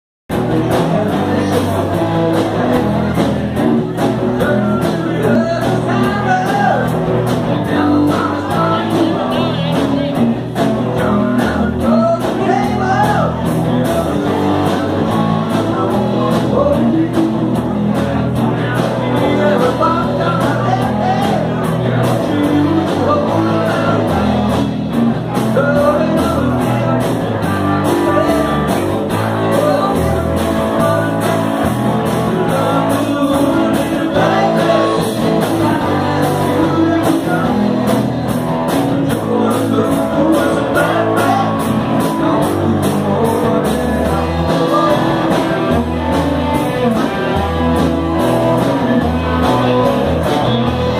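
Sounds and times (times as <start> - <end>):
driving drum beat: 0.3 - 50.9
electric guitar: 0.3 - 50.9
person singing: 0.3 - 50.9
rock band playing: 0.3 - 50.9.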